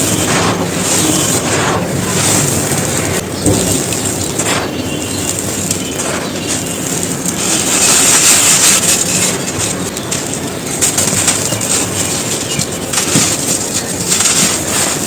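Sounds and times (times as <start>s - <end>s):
bricks crumbling and crunching: 0.0s - 15.0s.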